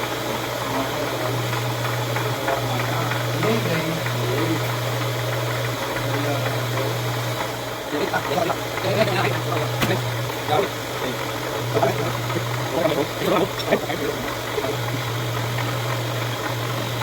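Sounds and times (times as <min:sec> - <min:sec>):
machine tool motor humming: 0:00.0 - 0:17.0.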